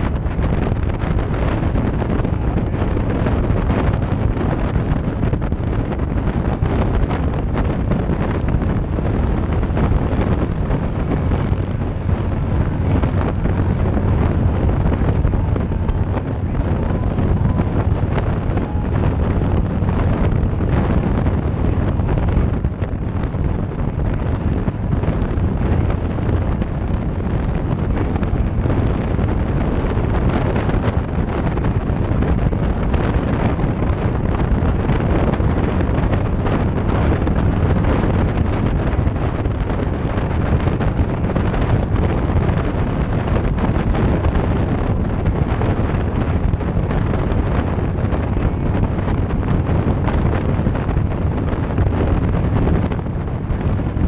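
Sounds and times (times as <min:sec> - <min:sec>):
motorcycle engine drone: 0:00.0 - 0:54.0
wind rushing over microphone: 0:00.0 - 0:54.0.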